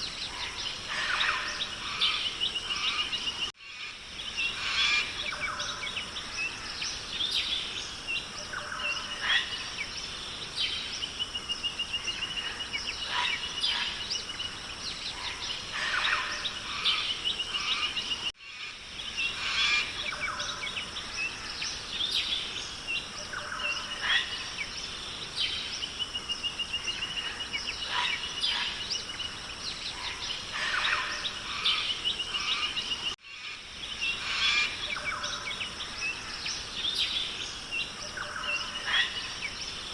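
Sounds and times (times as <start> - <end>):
birds calling and chirping: 0.0 - 39.9.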